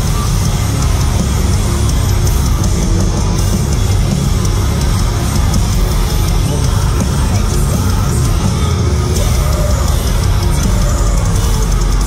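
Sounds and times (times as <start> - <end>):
metal band playing live: 0.0 - 12.0.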